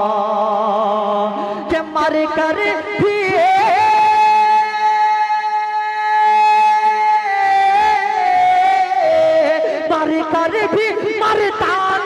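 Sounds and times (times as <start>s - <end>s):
man singing a long high note: 0.0s - 12.0s.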